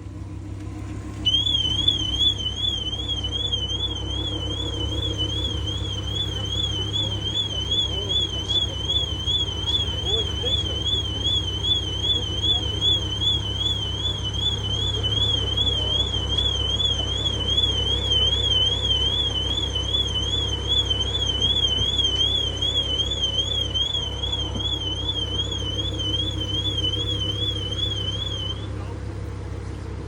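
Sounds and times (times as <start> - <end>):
steady low rumble: 0.0 - 30.0
electronic alarm warbling: 1.3 - 28.6.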